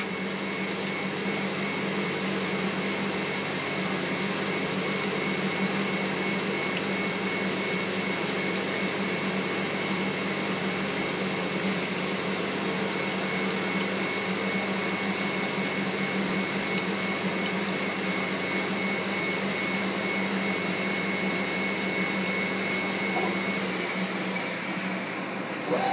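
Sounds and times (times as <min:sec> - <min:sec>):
milling machine whine and hum: 0:00.0 - 0:25.9.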